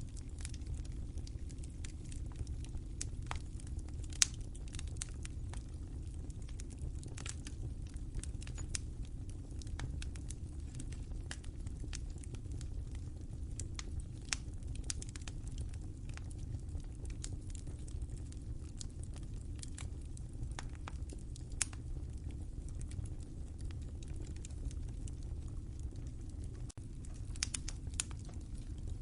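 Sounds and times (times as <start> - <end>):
fire crackling and popping: 0.0 - 29.0
low rush of flames: 0.0 - 29.0.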